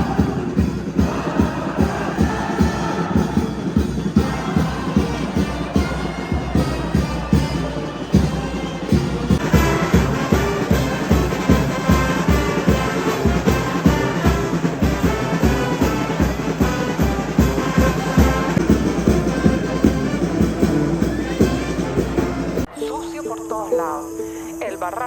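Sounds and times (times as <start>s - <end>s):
brass band music: 0.0s - 22.7s
driving drum beat: 0.0s - 22.7s.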